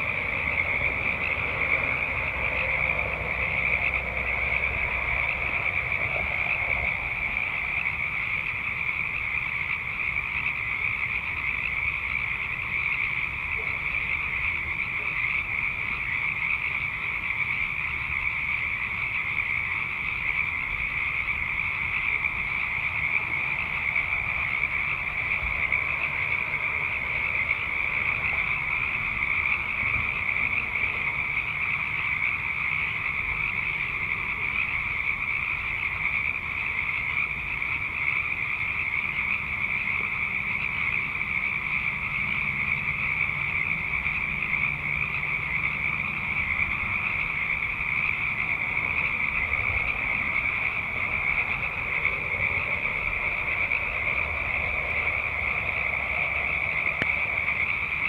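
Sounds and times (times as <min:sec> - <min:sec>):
chorus of frogs calling: 0:00.0 - 0:58.0.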